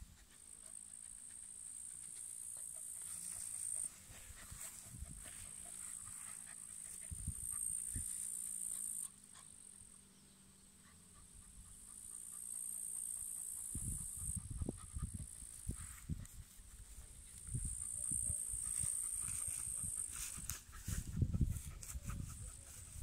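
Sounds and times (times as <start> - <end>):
dog sniffing in grass: 0.0 - 9.4, 13.5 - 23.0.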